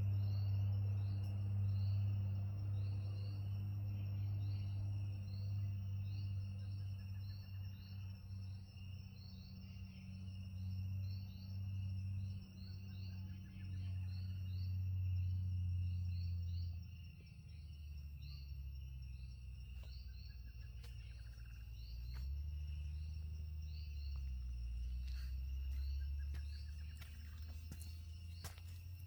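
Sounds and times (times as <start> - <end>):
high insect drone: 0.0 - 29.0
short insect chirps: 0.0 - 29.0.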